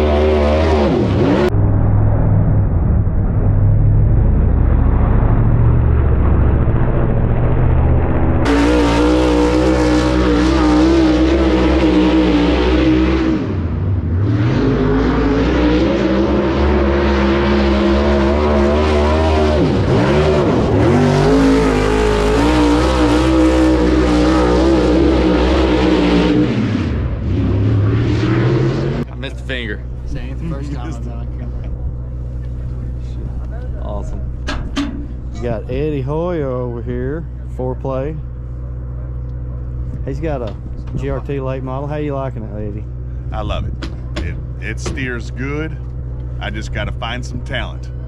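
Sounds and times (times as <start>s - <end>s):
race car engine running hard: 0.0s - 48.0s.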